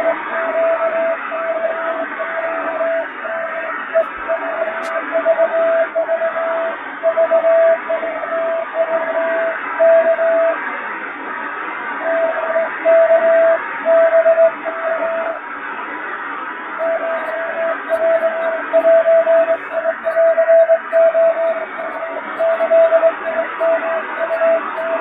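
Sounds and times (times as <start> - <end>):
morse code tone: 0.0 - 10.6, 12.0 - 15.4, 16.8 - 25.0
radio hiss: 0.0 - 25.0.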